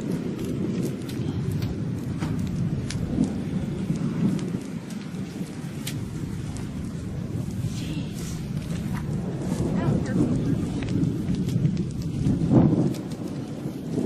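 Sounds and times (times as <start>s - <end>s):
low thunder rumble: 0.0s - 14.0s
rain: 0.0s - 14.0s.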